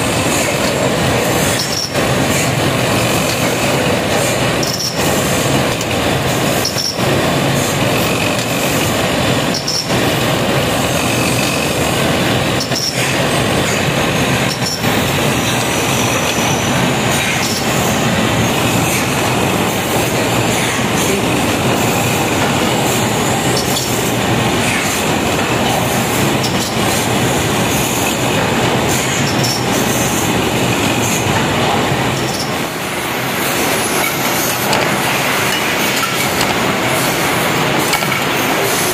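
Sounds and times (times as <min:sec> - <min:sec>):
bench lathes running: 0:00.0 - 0:38.9.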